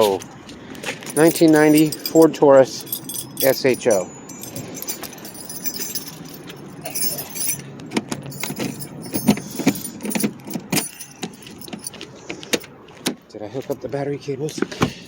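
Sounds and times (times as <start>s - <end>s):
car keys jangling: 0.0s - 0.2s, 0.9s - 12.8s
handling clicks and knocks: 0.9s - 13.8s.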